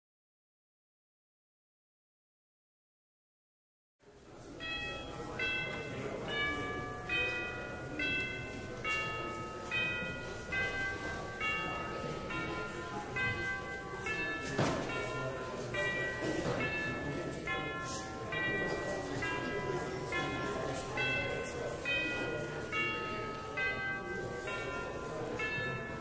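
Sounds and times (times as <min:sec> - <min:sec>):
church bells ringing: 0:04.4 - 0:26.0.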